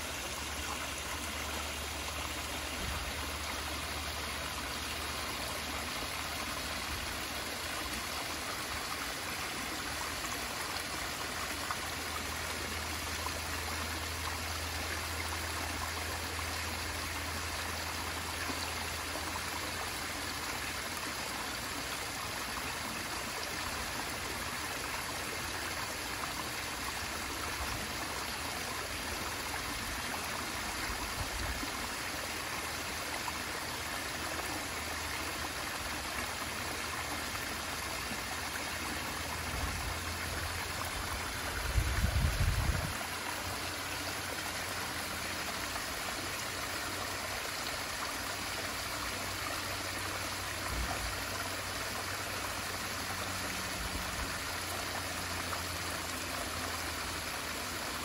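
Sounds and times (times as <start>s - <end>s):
waterfall splashing into pond: 0.0s - 58.0s.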